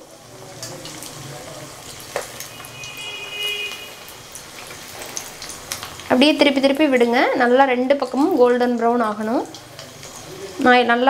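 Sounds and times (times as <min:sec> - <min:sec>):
meatball sizzling in hot oil: 0:00.0 - 0:11.0.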